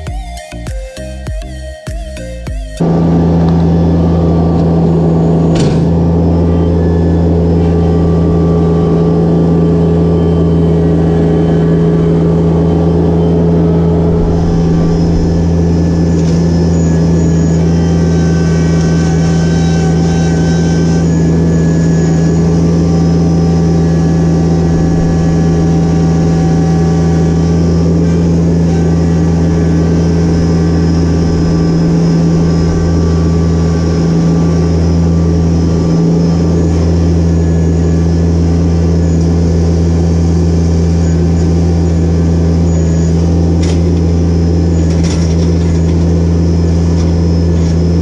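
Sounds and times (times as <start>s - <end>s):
high whine: 0.0s - 48.0s
tractor diesel engine running: 0.0s - 48.0s.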